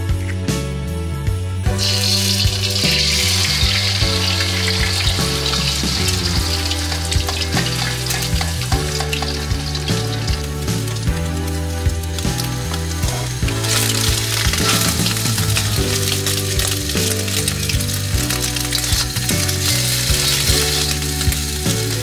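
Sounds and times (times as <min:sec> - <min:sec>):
background music: 0:00.0 - 0:22.0
eggs sizzling in a wok: 0:01.7 - 0:22.0
turner scraping a pan: 0:01.8 - 0:22.0.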